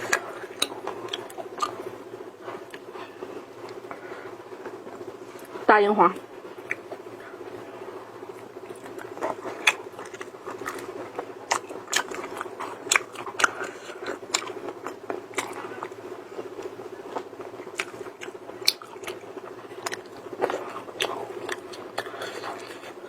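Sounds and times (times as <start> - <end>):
person chewing crunchy food: 0.0 - 4.0, 8.3 - 23.0
steady hum: 0.0 - 23.0.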